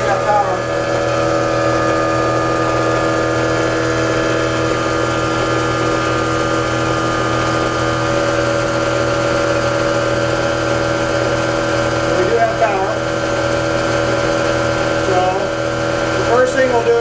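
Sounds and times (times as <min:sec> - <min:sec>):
generator humming with whining tones: 0:00.0 - 0:17.0.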